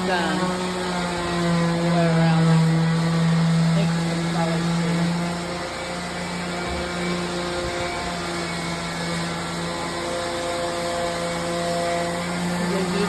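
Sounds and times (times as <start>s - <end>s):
electric palm sander: 0.0s - 13.0s.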